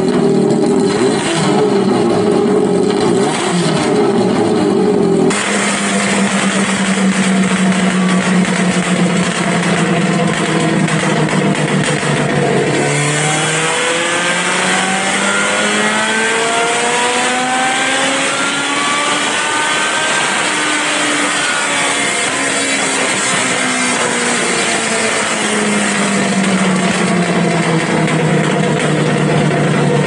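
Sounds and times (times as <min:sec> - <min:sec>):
race car engine revving under load: 0:00.0 - 0:30.0.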